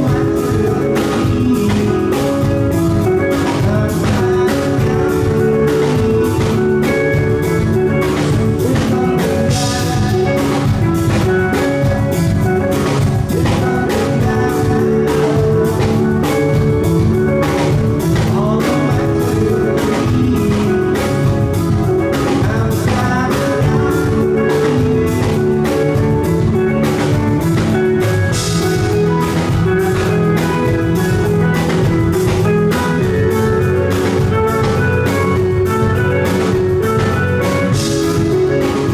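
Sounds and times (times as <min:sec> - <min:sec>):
live rock band playing: 0:00.0 - 0:38.9
steady drum beat: 0:00.0 - 0:38.9.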